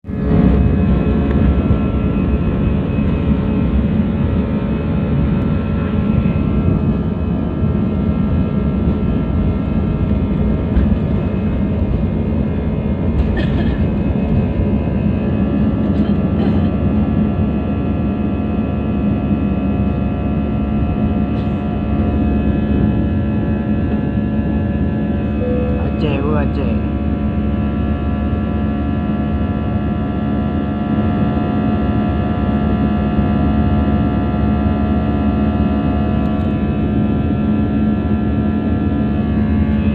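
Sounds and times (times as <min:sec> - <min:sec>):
jet engines droning in cabin: 0:00.1 - 0:39.9.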